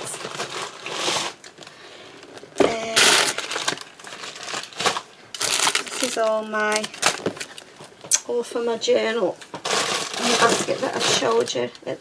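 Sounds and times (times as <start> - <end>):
packaging crinkling: 0.0 - 7.9, 9.5 - 11.6.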